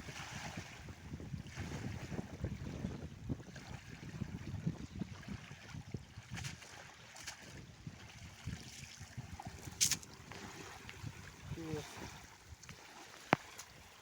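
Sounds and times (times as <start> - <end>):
water splashes: 0.0 - 2.8, 3.4 - 14.0
river water: 0.0 - 14.0
wind rumbling on microphone: 0.0 - 14.0.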